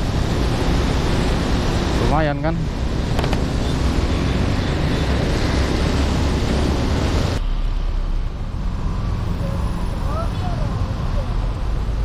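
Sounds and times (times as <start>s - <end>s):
motorcycle road noise rumble: 0.0s - 12.0s.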